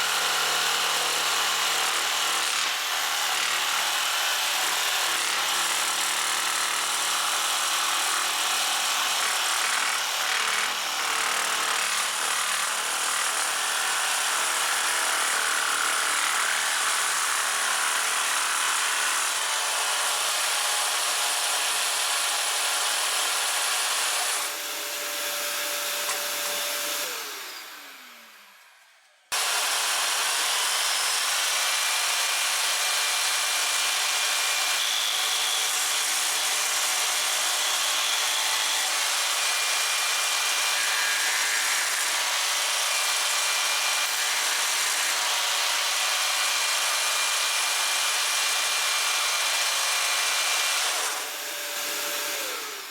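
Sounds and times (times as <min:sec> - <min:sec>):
jigsaw cutting wood: 0:00.0 - 0:52.9
jigsaw running free hum: 0:00.0 - 0:52.9
jigsaw winding down: 0:00.0 - 0:52.9.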